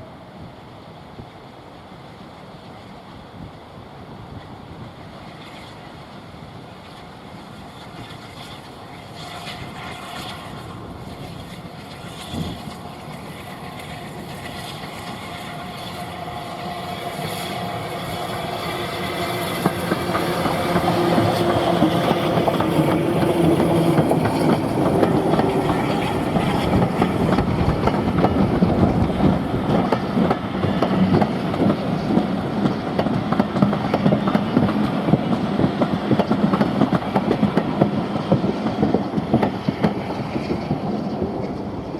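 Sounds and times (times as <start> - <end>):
steam train passing: 0.0 - 41.9.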